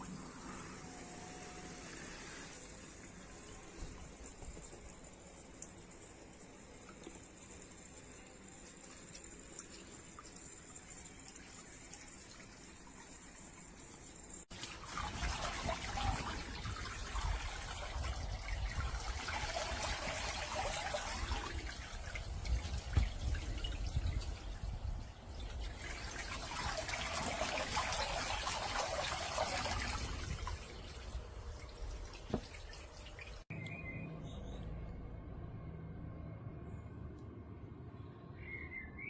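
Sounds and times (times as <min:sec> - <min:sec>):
water trickling and splashing: 0:00.0 - 0:33.5.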